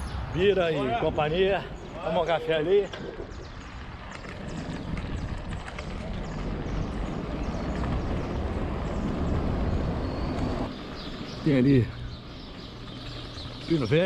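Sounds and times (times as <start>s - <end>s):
bike riding wind and rolling noise: 0.0s - 14.0s.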